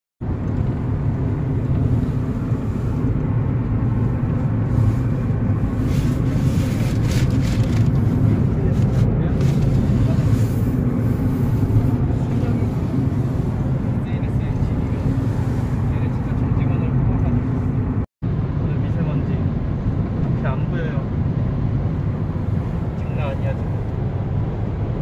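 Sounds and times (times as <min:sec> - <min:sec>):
car road and engine rumble: 0:00.2 - 0:25.0.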